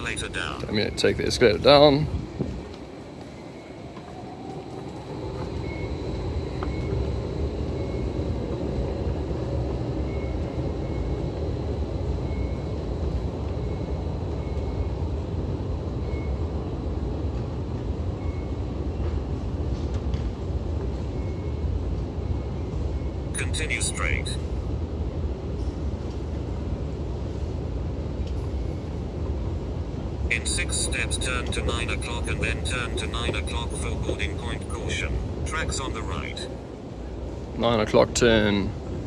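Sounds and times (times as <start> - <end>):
low train rumble: 0.0 - 39.0.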